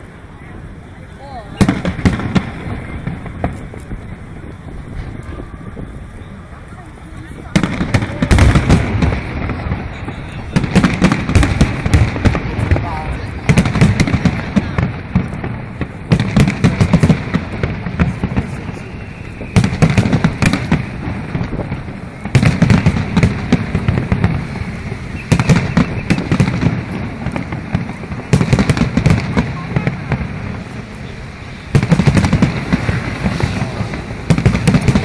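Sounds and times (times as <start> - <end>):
fireworks bursting with sharp bangs: 0.0 - 35.0
fireworks crackling: 0.0 - 35.0.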